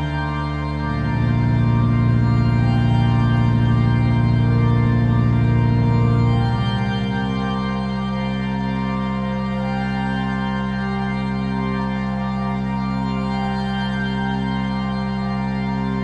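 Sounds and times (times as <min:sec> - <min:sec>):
organ-like chords: 0:00.0 - 0:16.0.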